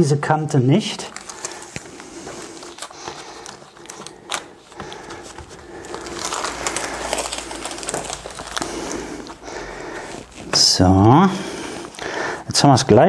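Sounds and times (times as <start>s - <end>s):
rustling and scraping: 1.0s - 12.3s.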